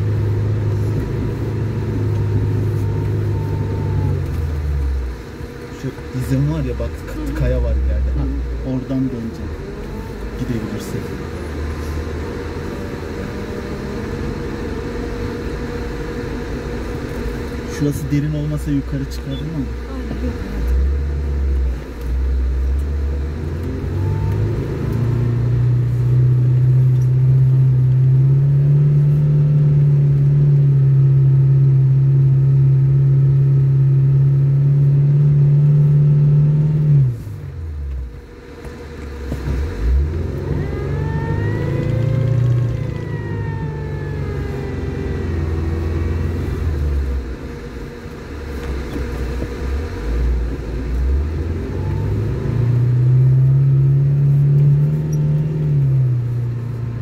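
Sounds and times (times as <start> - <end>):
car engine revving: 0.0 - 57.0
engine whine: 0.0 - 57.0.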